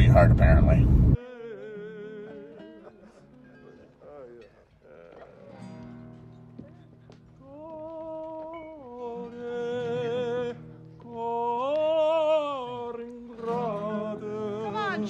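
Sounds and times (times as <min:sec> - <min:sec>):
man singing with vibrato: 0:00.0 - 0:05.7, 0:07.4 - 0:15.0
acoustic guitar: 0:00.0 - 0:15.0.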